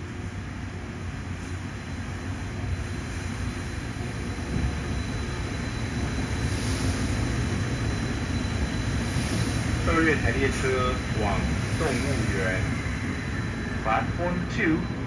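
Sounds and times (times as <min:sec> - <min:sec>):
train rumbling past: 0:00.0 - 0:15.0
faint high whine: 0:01.5 - 0:15.0.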